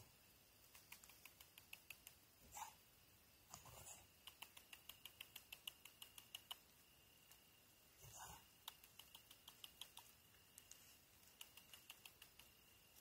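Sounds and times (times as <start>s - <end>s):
faint regular ticks: 0.5s - 2.8s, 3.5s - 13.0s.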